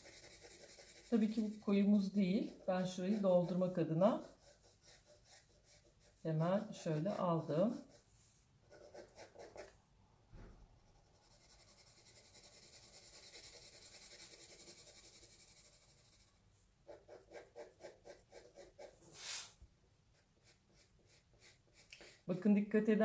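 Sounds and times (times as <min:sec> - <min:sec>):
pencil scrape: 0:00.0 - 0:09.8, 0:10.9 - 0:19.6, 0:20.4 - 0:22.3
pencil scratching on paper: 0:00.0 - 0:09.8, 0:10.8 - 0:19.5, 0:20.1 - 0:22.5.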